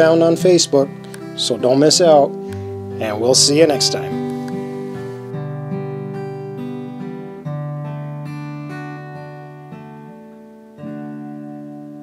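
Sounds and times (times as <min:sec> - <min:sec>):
slow acoustic guitar chords: 0:00.0 - 0:12.0.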